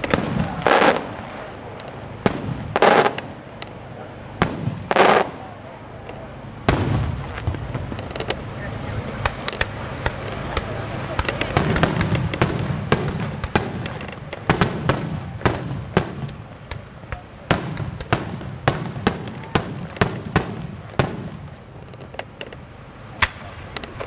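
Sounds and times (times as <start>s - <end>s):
firework shells bursting: 0.0s - 24.0s.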